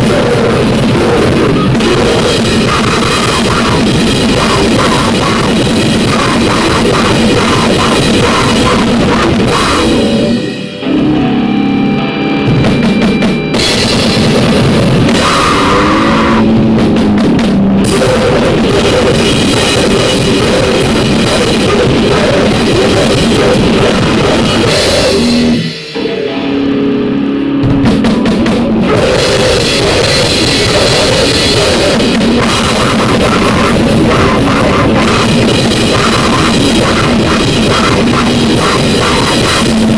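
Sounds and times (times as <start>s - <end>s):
distorted noise music: 0.0s - 39.9s.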